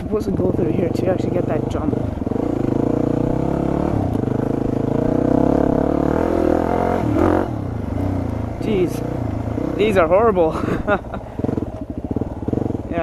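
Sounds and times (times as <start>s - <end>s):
dirt bike engine revving: 0.4s - 13.0s.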